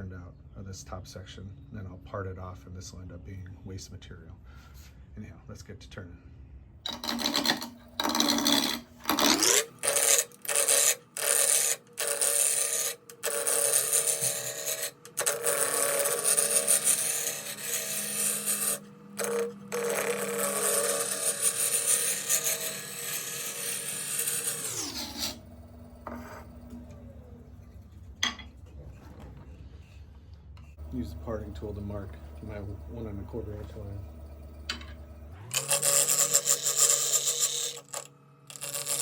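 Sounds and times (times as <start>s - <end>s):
wood lathe motor: 6.9s - 30.0s, 30.7s - 39.0s
turning tool cutting wood: 6.9s - 39.0s.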